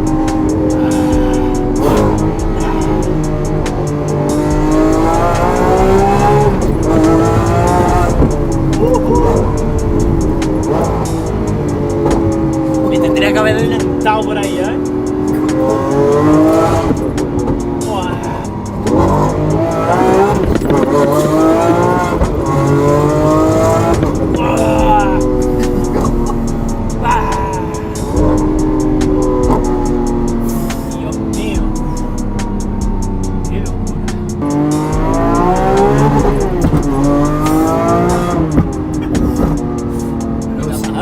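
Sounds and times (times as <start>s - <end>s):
car engine accelerating hard: 0.0s - 41.0s.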